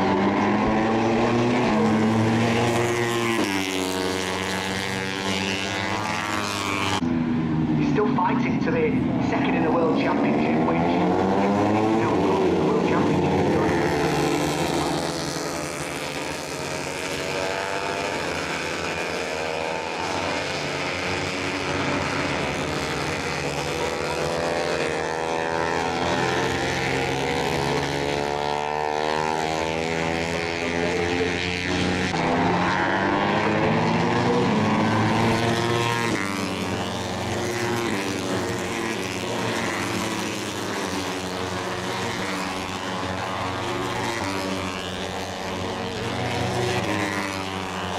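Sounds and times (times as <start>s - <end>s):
racing motorcycles passing: 0.0s - 47.9s.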